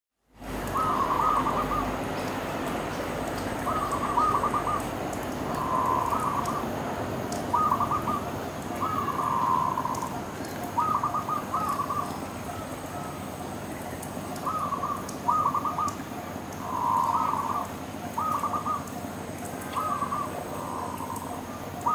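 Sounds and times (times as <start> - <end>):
dove cooing: 0.5 - 21.9.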